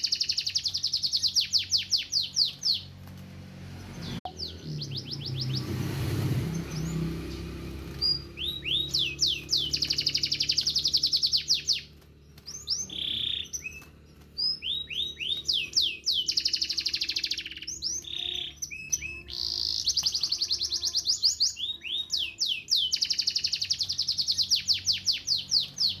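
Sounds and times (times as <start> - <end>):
canary singing trills: 0.0 - 3.0, 3.8 - 26.0.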